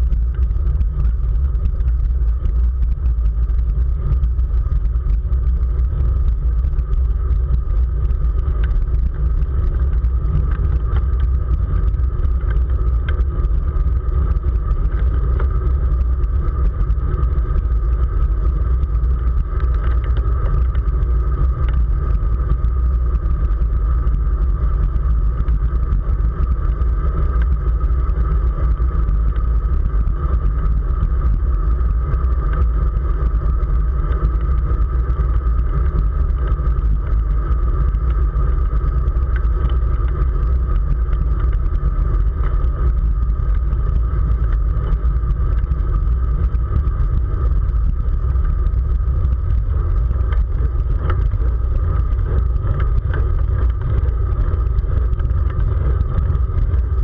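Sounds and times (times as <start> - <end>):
road and tyre noise: 0.0 - 57.0
wind rumble on microphone: 0.0 - 57.0.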